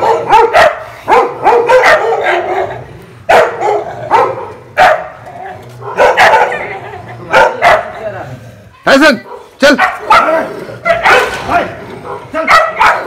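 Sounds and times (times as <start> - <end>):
dogs barking: 0.0 - 8.2, 9.2 - 13.0.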